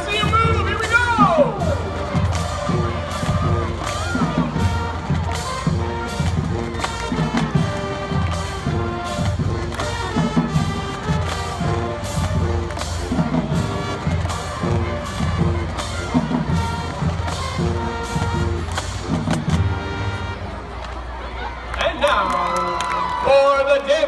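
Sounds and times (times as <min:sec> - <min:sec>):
steady drum beat: 0:00.0 - 0:20.2
marching band brass tune: 0:00.0 - 0:23.8.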